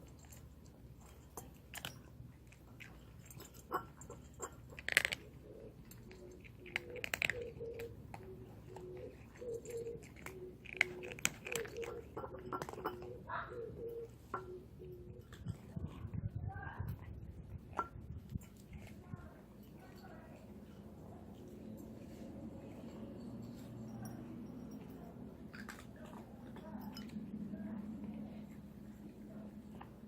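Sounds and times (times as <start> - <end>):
cats crunching food: 0.0 - 16.2, 17.0 - 30.0.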